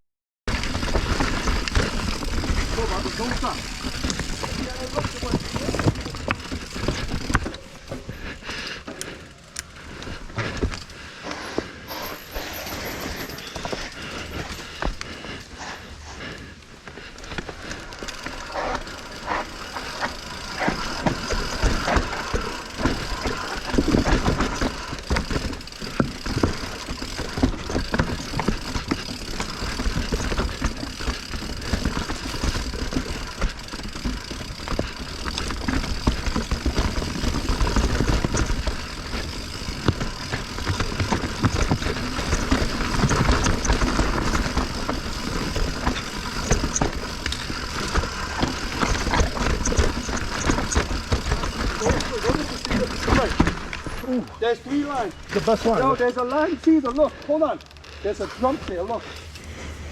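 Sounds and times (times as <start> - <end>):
bike knocking and clattering: 0.5 - 59.4
bike tyres rattling over rocks: 0.5 - 59.9.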